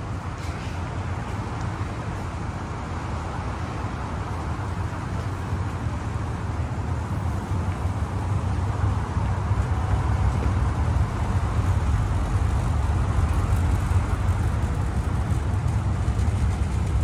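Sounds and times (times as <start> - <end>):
moving walkway humming: 0.0 - 17.0.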